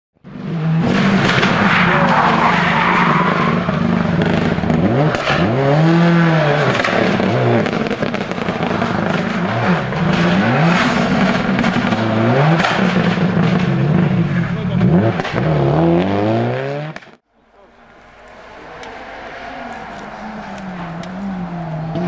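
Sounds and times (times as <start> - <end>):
rally car engine revving: 0.2 - 22.0.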